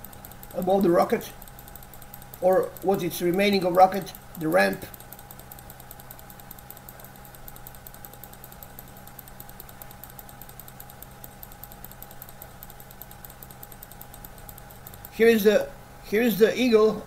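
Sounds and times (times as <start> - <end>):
faint fast ticking: 0.0 - 17.0.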